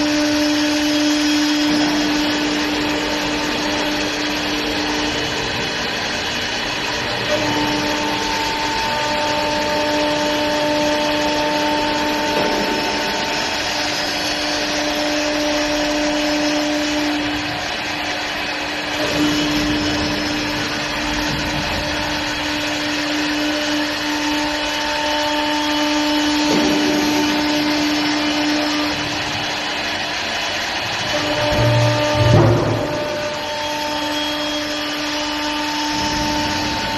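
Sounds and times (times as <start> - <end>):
lathe motor whine: 0.0 - 36.9.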